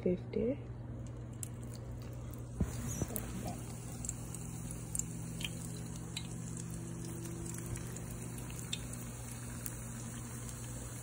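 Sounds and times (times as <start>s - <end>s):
low steady hum: 0.0s - 11.0s
oil sizzling with pops: 1.0s - 11.0s.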